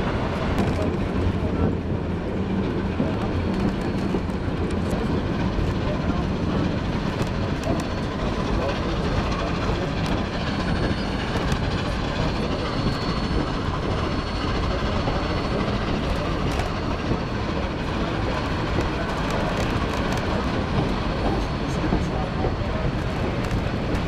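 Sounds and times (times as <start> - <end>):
railroad car rumbling and rattling: 0.0 - 24.0.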